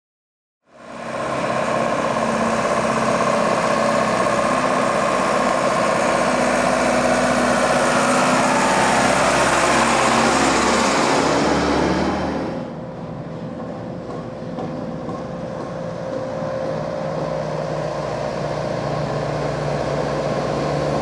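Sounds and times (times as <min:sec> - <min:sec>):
diesel bus engine running: 0:00.7 - 0:21.0.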